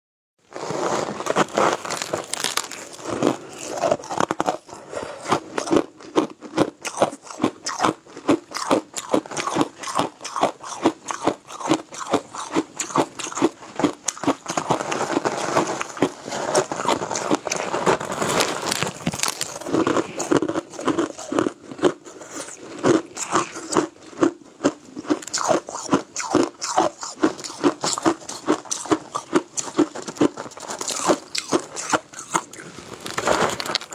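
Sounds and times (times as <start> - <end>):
crunching ice: 0.5 - 33.9
chewing: 2.0 - 33.9.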